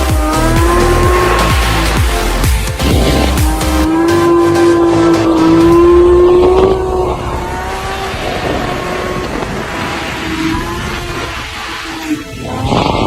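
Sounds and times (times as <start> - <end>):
motorcycle engine revving: 0.0 - 13.0
road noise: 0.0 - 13.0.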